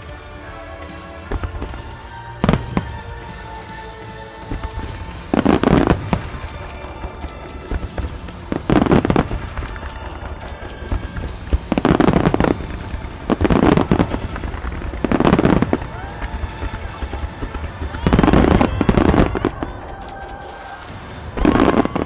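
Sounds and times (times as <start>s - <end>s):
fireworks bursting with bangs: 0.0s - 22.0s
fireworks crackling: 0.0s - 22.0s.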